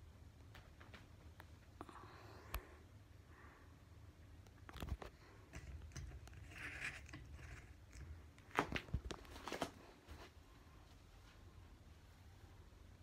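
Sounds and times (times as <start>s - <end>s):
ceiling fan hum: 0.0s - 13.0s.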